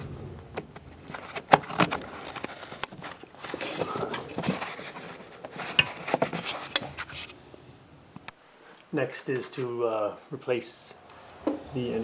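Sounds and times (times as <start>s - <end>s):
wiring rustling and scraping: 0.0s - 9.8s.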